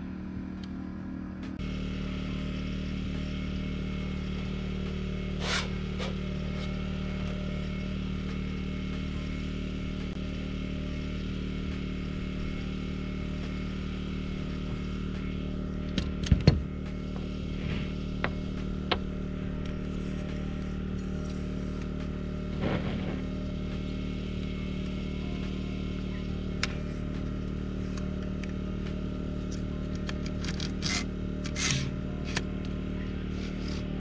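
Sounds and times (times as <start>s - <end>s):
steady machine drone: 0.0s - 34.0s.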